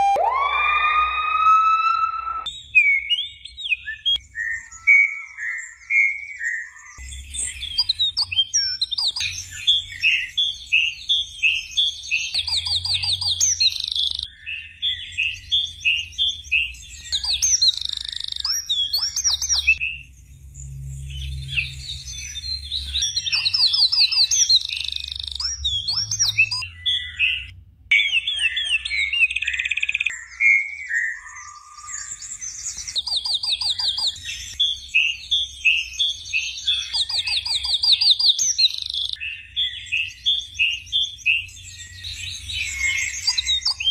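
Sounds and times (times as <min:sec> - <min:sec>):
bird chirps and trills: 0:00.0 - 0:43.9.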